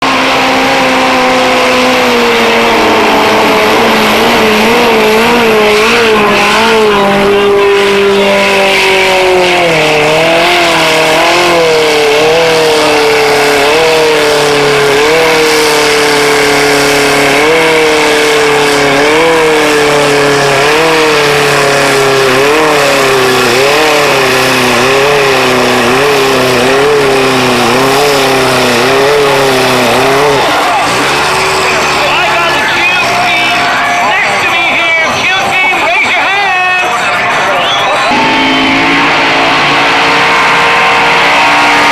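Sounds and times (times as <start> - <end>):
racing car engine at high revs: 0.0 - 41.9.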